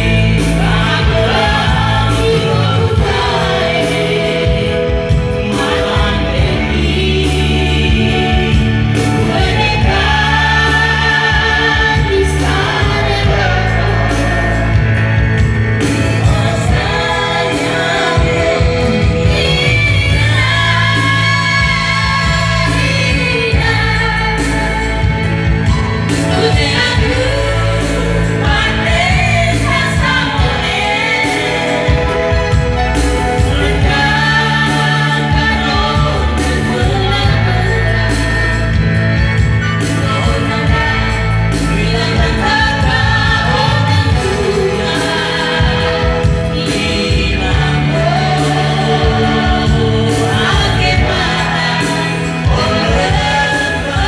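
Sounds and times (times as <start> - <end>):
man and woman singing duet: 0.0 - 54.0.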